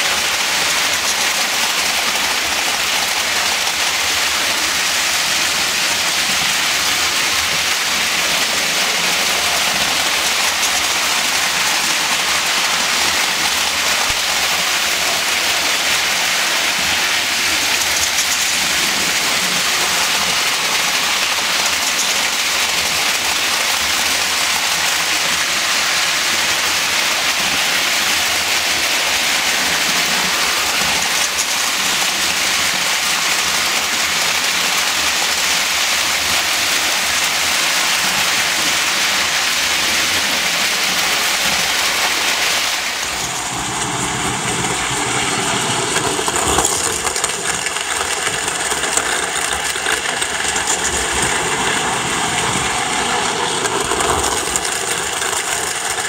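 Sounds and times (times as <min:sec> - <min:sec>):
toy trains rolling on metal track: 0:00.0 - 0:56.0.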